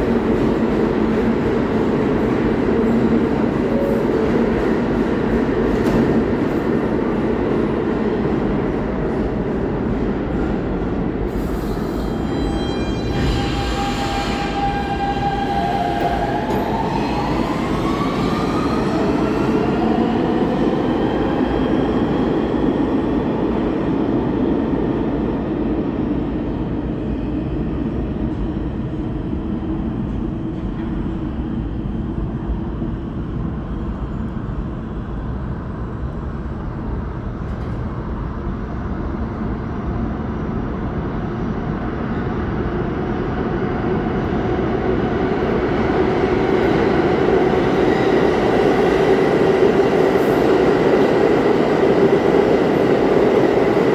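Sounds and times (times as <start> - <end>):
subway train motors whining: 0.0 - 53.9
train rumbling through tunnel: 0.0 - 53.9.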